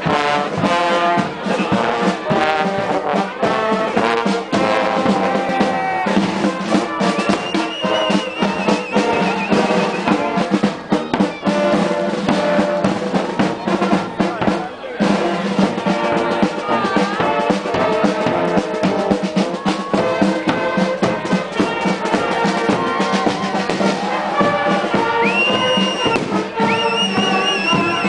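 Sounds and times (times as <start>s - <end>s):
brass band playing: 0.0s - 28.0s
drum beats: 0.0s - 28.0s.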